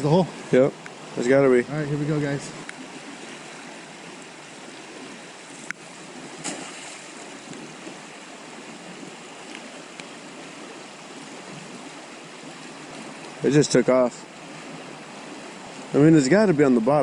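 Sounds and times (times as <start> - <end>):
creek rushing over its bed: 0.0 - 17.0.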